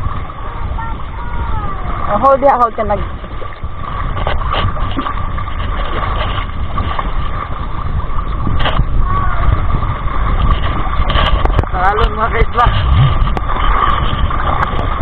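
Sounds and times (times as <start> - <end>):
water sloshing around hull: 0.0 - 15.0
wind buffeting microphone: 0.0 - 15.0.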